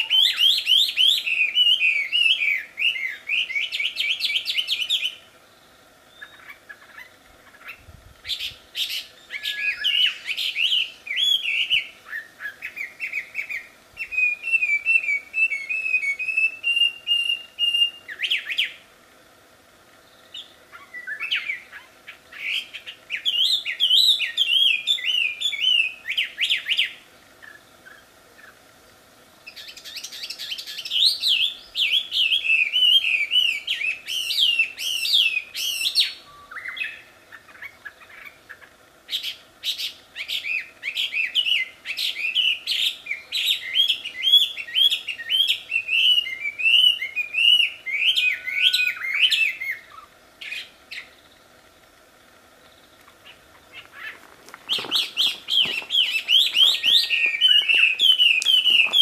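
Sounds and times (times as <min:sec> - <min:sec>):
songbird whistling song: 0:00.0 - 0:18.9, 0:20.0 - 0:28.6, 0:29.4 - 0:51.5, 0:52.6 - 0:59.0.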